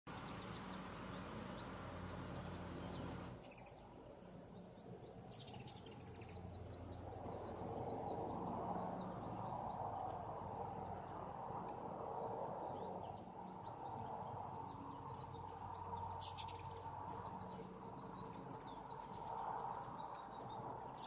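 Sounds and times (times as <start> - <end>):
hummingbirds rapid chattering: 0.1 - 21.0
hummingbirds squeaking: 0.2 - 9.6, 12.7 - 21.0.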